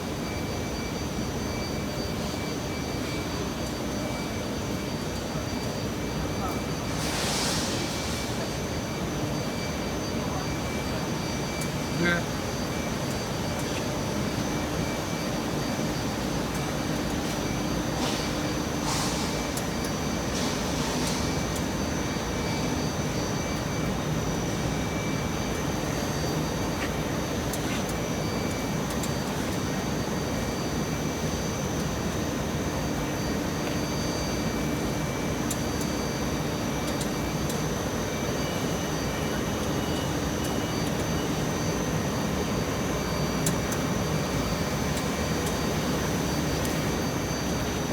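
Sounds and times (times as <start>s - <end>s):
high machine whines: 0.0s - 47.9s.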